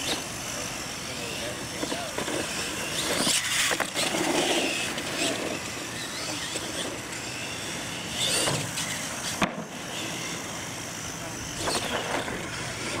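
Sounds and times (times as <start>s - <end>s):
toy truck motor whine: 0.0s - 13.0s.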